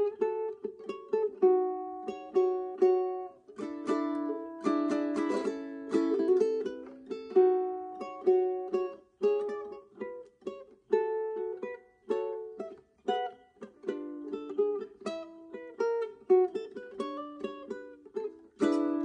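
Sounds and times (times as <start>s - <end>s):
fingerstyle ukulele melody: 0.0s - 19.0s.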